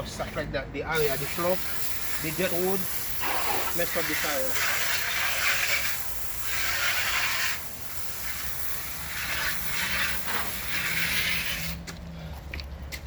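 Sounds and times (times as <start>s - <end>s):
hissing water spray on tire: 0.0s - 11.9s.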